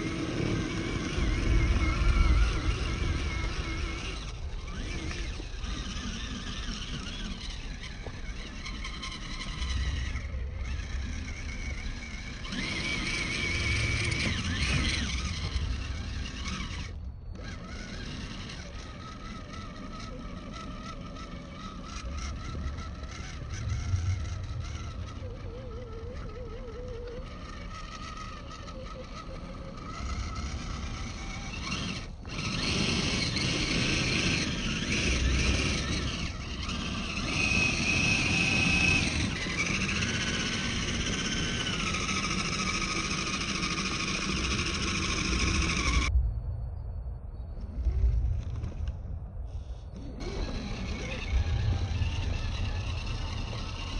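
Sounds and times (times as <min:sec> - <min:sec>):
electric motor and gears whining: 0:00.0 - 0:46.1, 0:47.6 - 0:53.9
tyres grinding over dirt and stones: 0:00.0 - 0:46.1, 0:50.0 - 0:53.9.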